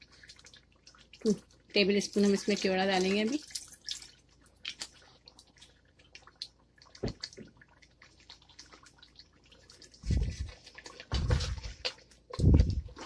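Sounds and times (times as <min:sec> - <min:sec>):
thick gravy bubbling and popping: 0:00.0 - 0:13.0.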